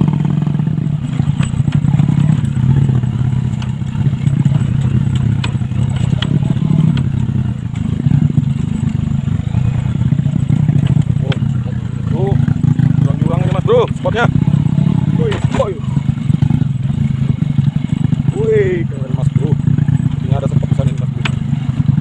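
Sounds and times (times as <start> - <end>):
bike rattling over bumps: 0.0 - 22.0
motorcycle engine running: 0.0 - 22.0.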